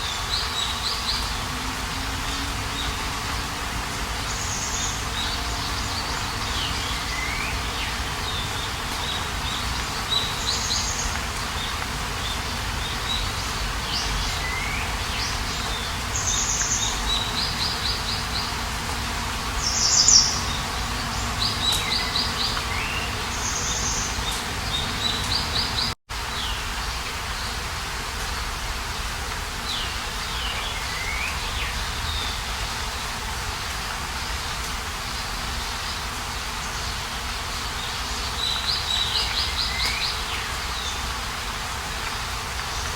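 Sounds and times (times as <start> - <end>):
wild birds singing: 0.0 - 18.8, 19.5 - 27.7, 28.9 - 42.9
outdoor ambience hiss: 0.0 - 42.9.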